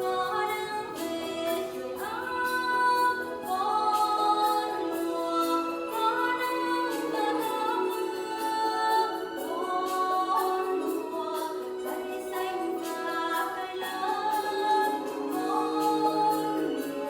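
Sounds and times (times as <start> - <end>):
song with singing and beat: 0.0 - 17.0.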